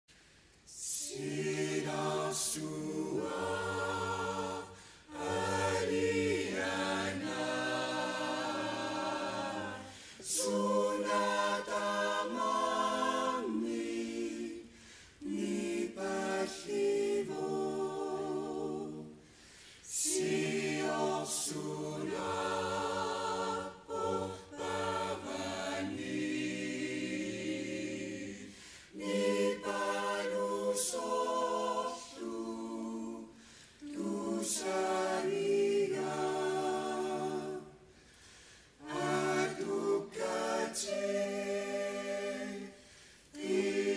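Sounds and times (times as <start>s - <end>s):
choir singing a cappella: 0.2s - 43.9s.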